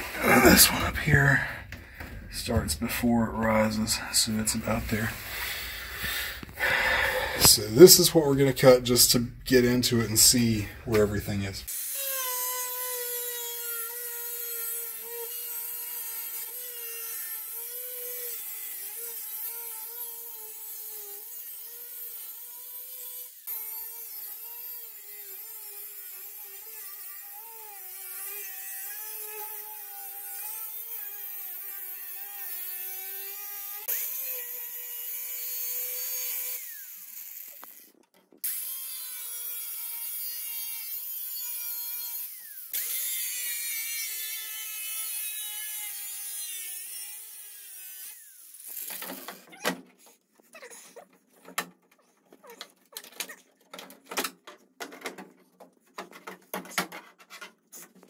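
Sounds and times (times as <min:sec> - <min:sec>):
angle grinder cutting metal: 0:00.0 - 0:50.2.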